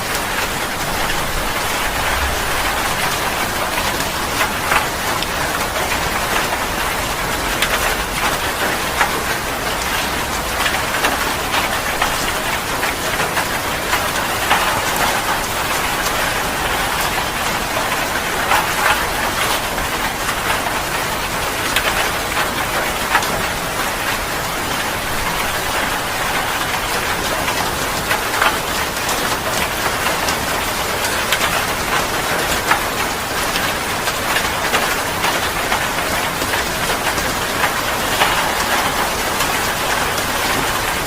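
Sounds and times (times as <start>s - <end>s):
heavy rain: 0.0s - 41.0s.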